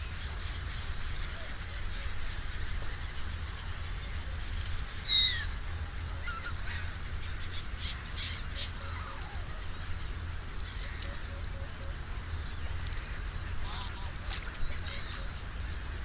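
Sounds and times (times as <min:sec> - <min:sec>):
steady low rumble: 0:00.0 - 0:16.0
waterbirds calling: 0:00.0 - 0:16.0.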